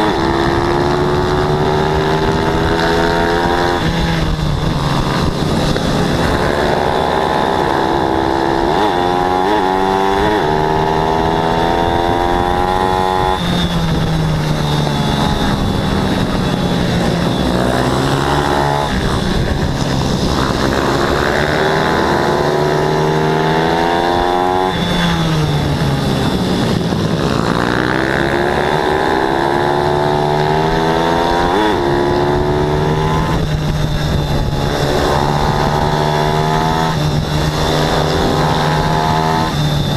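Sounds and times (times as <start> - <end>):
pit bike engines racing: 0.0 - 39.9.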